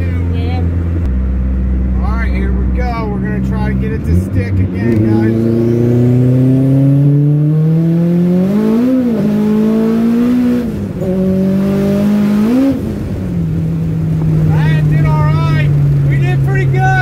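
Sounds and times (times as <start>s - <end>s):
car engine while driving: 0.0s - 17.0s.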